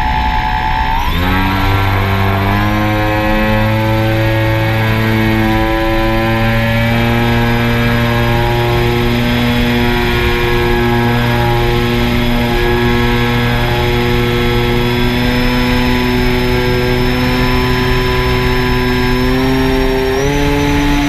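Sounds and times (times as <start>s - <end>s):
drone motors and propellers humming: 0.0s - 21.0s.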